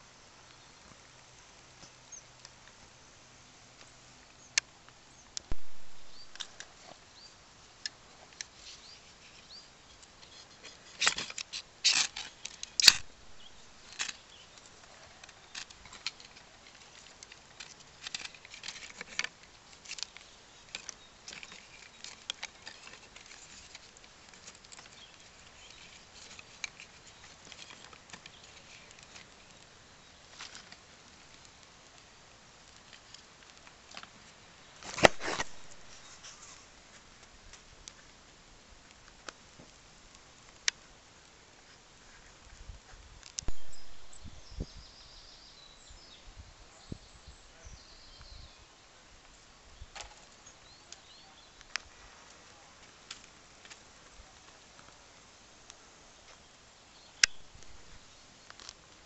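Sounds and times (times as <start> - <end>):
fire crackling and popping: 0.5 - 3.0, 3.6 - 44.6, 49.9 - 59.0.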